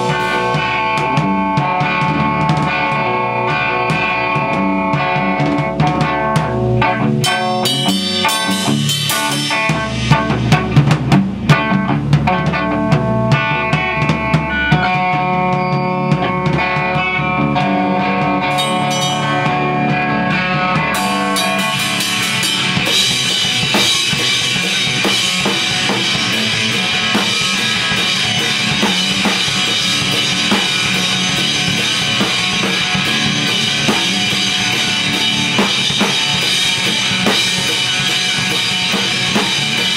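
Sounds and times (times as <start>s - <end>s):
drum kit: 0.0s - 39.9s
electric guitar: 0.0s - 39.9s.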